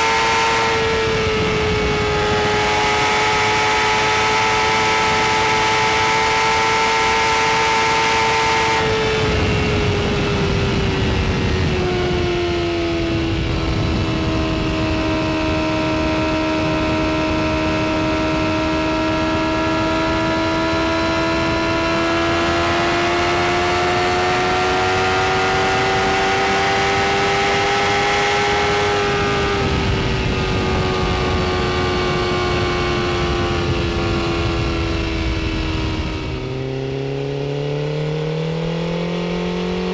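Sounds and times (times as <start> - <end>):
wind rush: 0.0 - 5.9, 7.4 - 37.7
motorcycle engine at high revs: 0.0 - 39.9.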